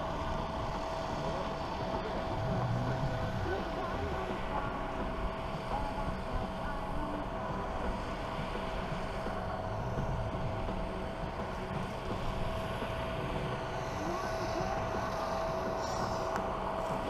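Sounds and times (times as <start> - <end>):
distant jet engines whining: 0.0 - 17.0.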